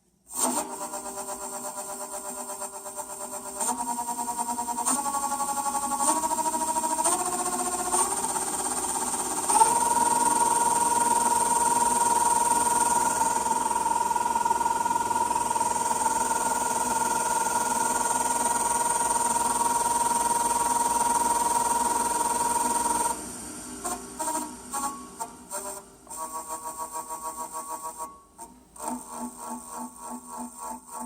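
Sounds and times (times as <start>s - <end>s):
wood lathe high-pitched whine: 0.3s - 28.2s, 28.8s - 31.0s.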